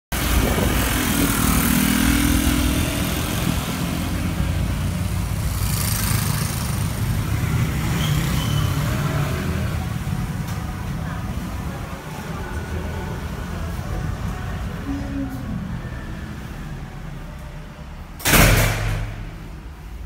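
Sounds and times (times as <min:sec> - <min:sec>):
cars passing: 0:00.1 - 0:18.2
low traffic rumble: 0:00.1 - 0:20.0
scooter engine passing: 0:00.2 - 0:17.3.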